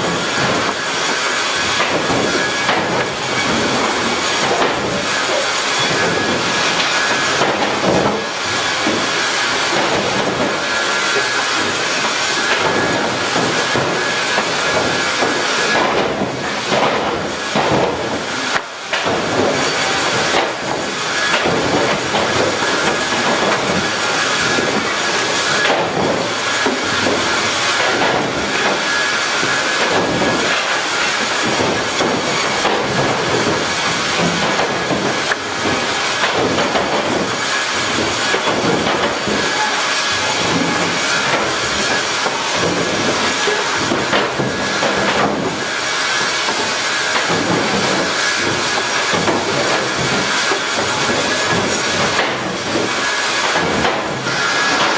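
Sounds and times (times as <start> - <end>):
sawmill machinery rumble and rattle: 0.0 - 54.9.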